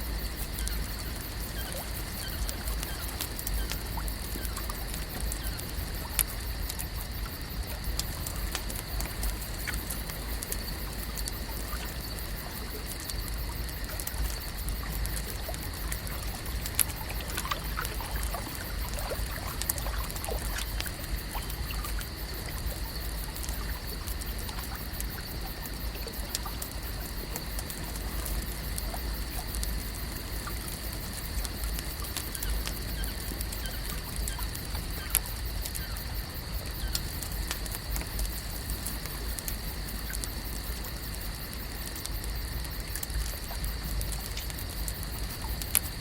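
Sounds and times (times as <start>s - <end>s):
water trickling and lapping: 0.0s - 46.0s.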